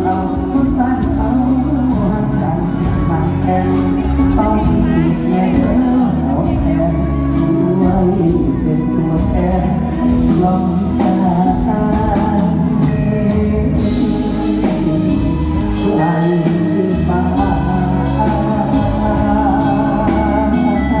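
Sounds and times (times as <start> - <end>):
live band music with beat: 0.0 - 21.0
person singing: 0.0 - 21.0.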